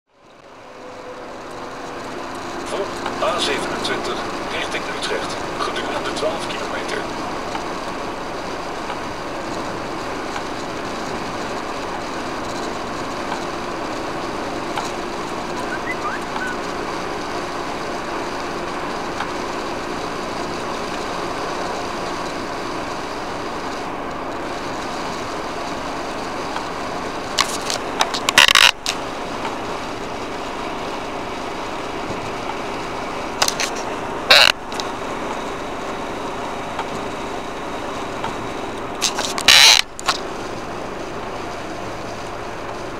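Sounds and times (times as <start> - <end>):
tyre and engine noise inside car: 0.1 - 42.9.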